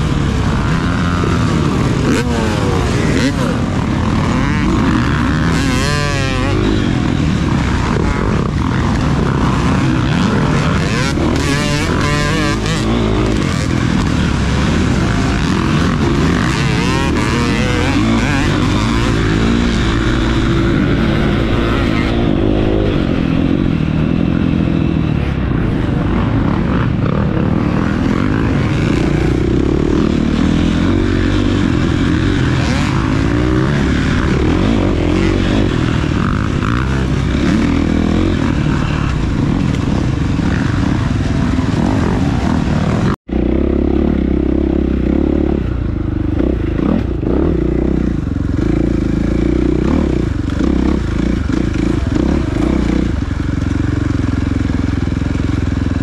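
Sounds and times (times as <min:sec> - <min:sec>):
off-road motorcycle engine revving: 0:00.0 - 0:56.0
rough wind noise: 0:00.0 - 0:56.0.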